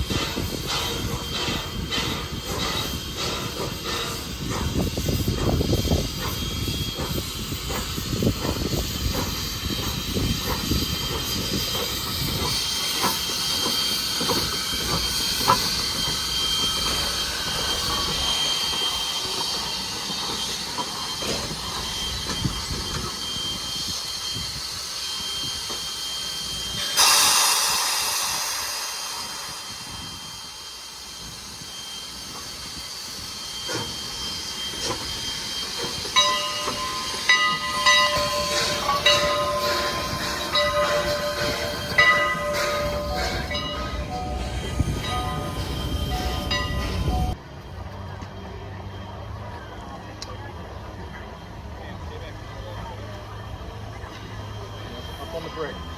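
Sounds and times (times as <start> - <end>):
steam hissing: 0.0 - 55.9
steam train rumbling on rails: 0.0 - 55.9.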